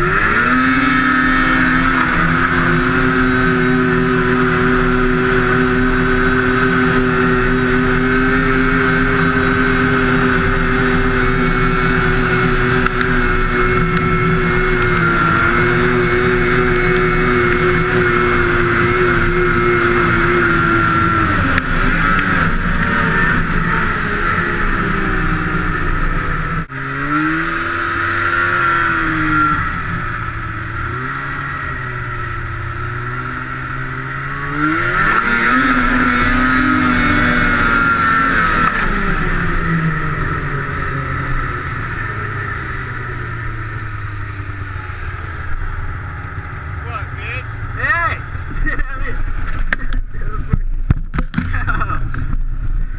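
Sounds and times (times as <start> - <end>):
snowmobile engine revving: 0.0 - 52.9.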